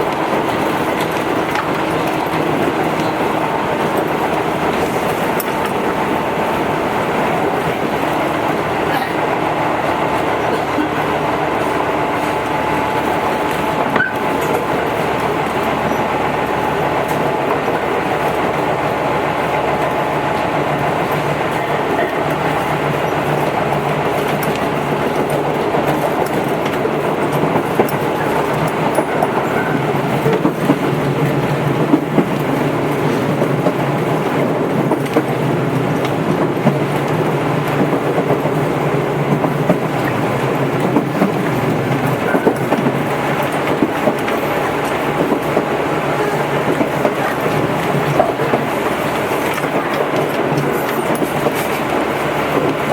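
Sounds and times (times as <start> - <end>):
electric train running hum: 0.0 - 52.9
wheels clicking over rail joints: 0.0 - 52.9.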